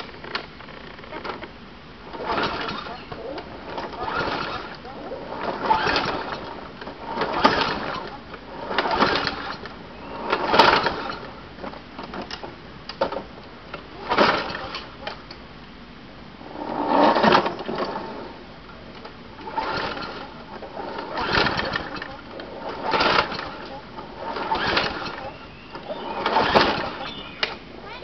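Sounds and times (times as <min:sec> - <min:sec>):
starter rope pulls: 0:00.0 - 0:15.2, 0:16.4 - 0:27.6
lawn mower engine cranking: 0:00.0 - 0:15.4, 0:16.4 - 0:28.0.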